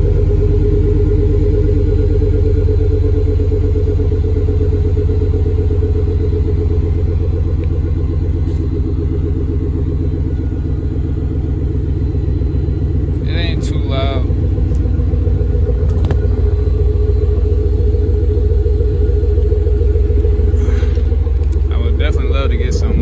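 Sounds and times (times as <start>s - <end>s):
car engine idling with deep exhaust: 0.0s - 23.0s.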